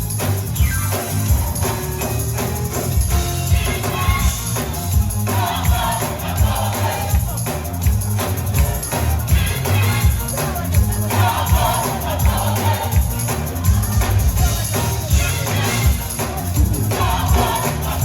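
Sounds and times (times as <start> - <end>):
band playing up-tempo song: 0.0 - 18.0
bass and drum beat: 0.0 - 18.0
tambourine: 0.0 - 18.0
gospel choir singing: 1.2 - 18.0.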